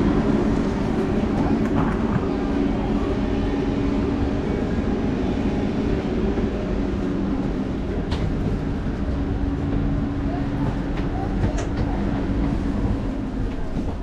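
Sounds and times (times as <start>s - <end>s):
train hum: 0.0s - 14.0s.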